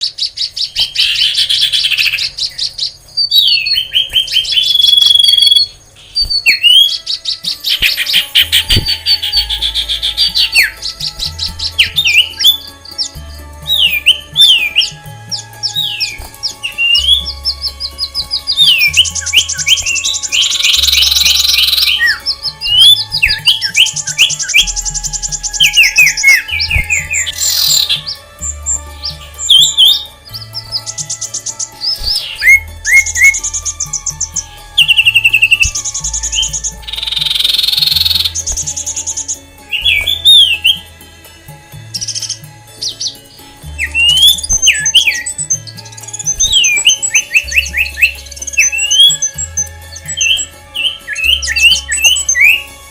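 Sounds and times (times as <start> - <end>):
bird whistles and trill: 0.0 - 40.9, 41.8 - 52.9
background music with low bass: 0.0 - 52.9
birds chirping and calling: 0.0 - 52.9.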